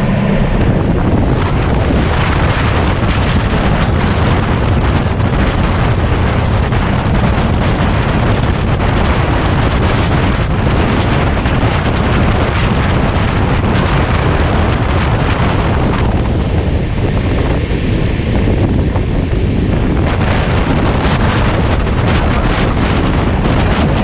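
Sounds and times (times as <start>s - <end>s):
train running on rails: 0.0s - 24.0s
wind buffeting microphone: 0.0s - 24.0s.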